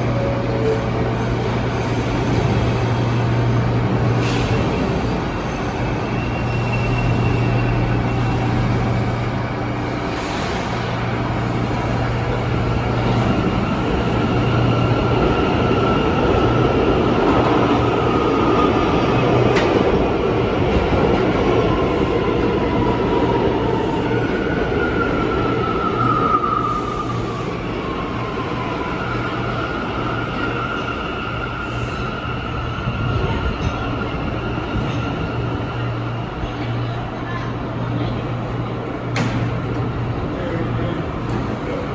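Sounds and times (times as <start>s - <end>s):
subway train rumble: 0.0s - 41.9s.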